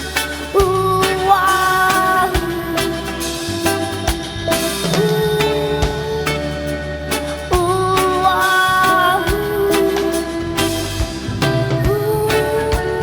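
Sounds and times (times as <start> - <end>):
bass guitar: 0.0 - 13.0
drum kit beat: 0.0 - 13.0
lead guitar held notes: 0.0 - 13.0.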